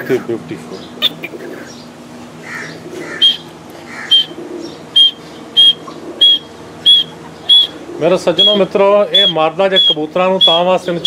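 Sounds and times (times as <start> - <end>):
pigeons cooing: 0.0 - 11.0
bird chirping: 0.7 - 2.0, 2.6 - 11.0.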